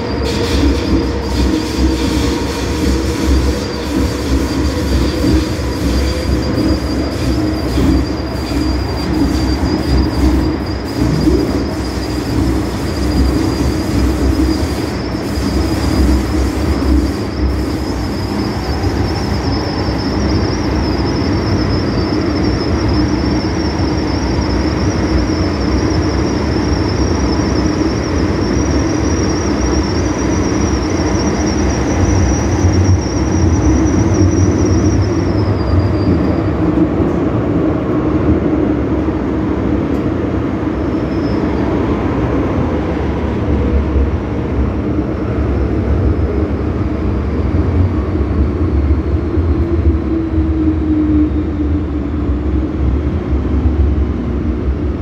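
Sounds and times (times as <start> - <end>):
metro train wheels rumbling: 0.0 - 55.0.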